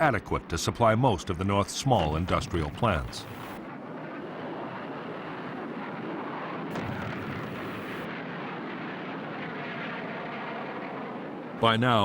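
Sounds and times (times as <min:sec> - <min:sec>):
jet aircraft roar: 0:01.9 - 0:12.0.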